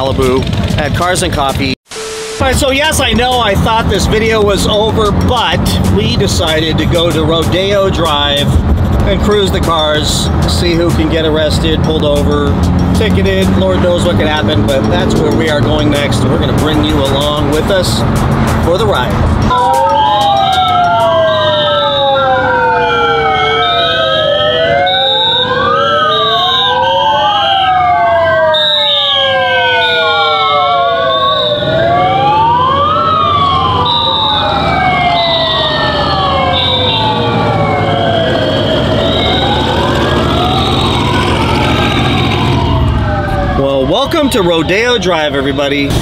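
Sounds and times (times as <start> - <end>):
wailing sirens: 1.9 - 8.4, 9.4 - 46.0
high pulsing tone: 1.9 - 27.8, 28.5 - 44.5.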